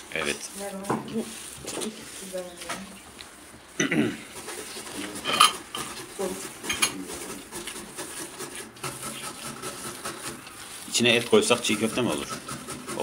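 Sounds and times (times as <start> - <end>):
hands kneading moist grain: 0.0 - 13.0.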